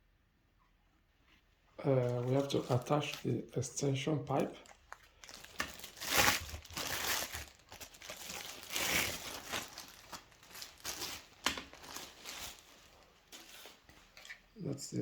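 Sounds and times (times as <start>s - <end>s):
packaging crinkling and rustling: 1.8s - 14.5s.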